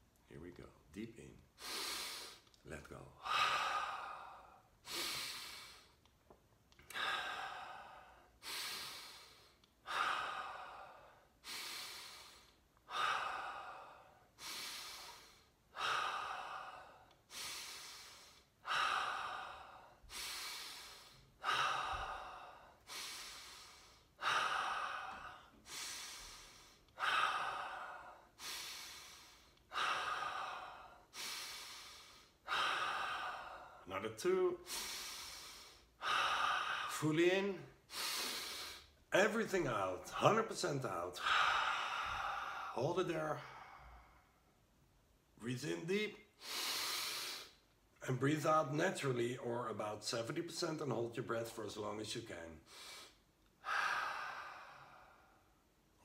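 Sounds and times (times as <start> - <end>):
man breathing deeply: 1.5 - 2.6, 3.2 - 6.1, 6.8 - 33.9, 34.6 - 44.8, 46.2 - 48.0, 52.6 - 56.0.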